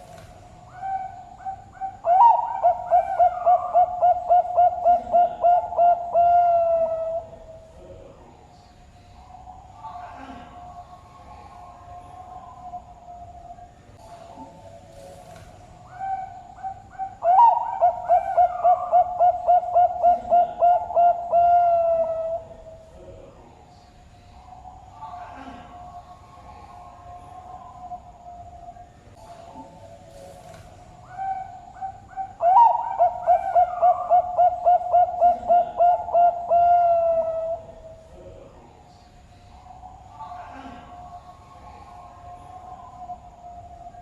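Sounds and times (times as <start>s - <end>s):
dove cooing: 0.0s - 8.0s, 9.2s - 23.5s, 24.4s - 38.9s.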